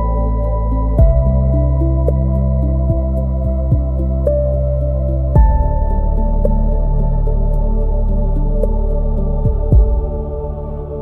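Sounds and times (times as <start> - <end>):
ambient synth music: 0.0 - 11.0.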